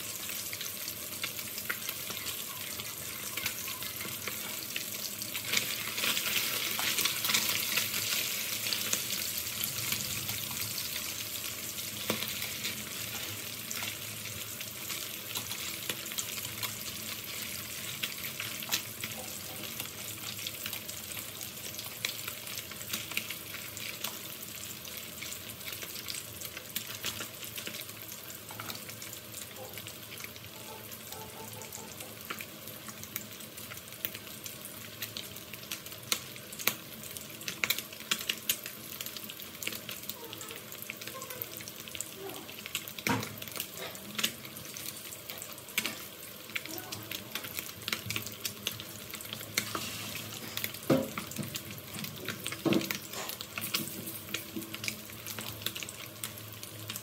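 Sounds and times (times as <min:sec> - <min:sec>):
fish frying in hot oil: 0:00.0 - 0:57.0.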